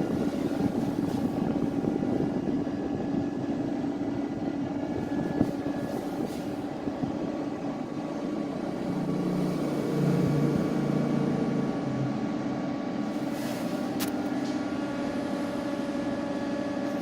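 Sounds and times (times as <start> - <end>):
air conditioner whirring: 0.0 - 17.0.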